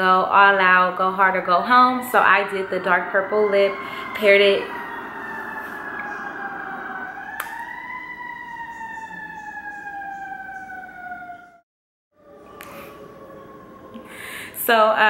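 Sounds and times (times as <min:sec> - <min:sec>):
siren wailing: 0:00.0 - 0:11.6, 0:12.2 - 0:15.0.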